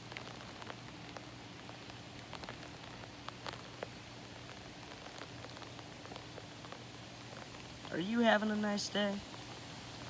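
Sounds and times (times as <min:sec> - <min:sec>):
raindrops ticking on surfaces: 0:00.0 - 0:10.0
steady rain falling: 0:00.0 - 0:10.0.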